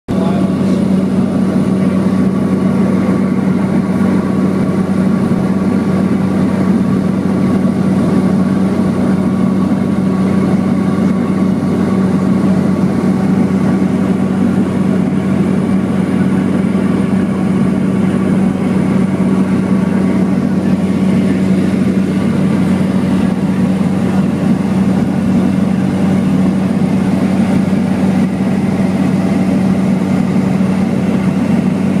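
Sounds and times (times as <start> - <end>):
propeller engine drone: 0.1 - 32.0.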